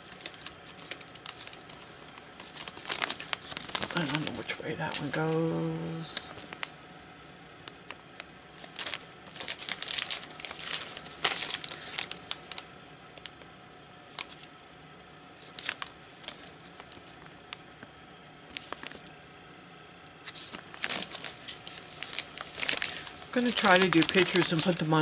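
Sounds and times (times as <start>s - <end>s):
plastic sleeves crinkling: 0.0s - 6.7s, 7.6s - 14.6s, 15.3s - 19.2s, 20.2s - 25.0s.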